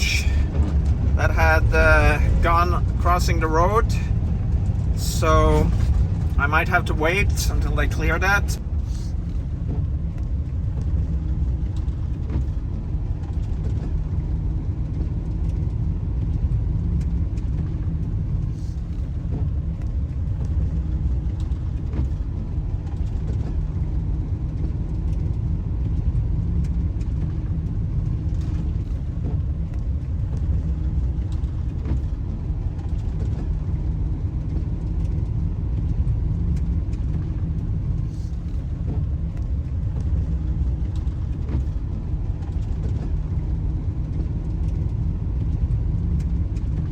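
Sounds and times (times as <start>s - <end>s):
van engine and road rumble: 0.0s - 46.9s.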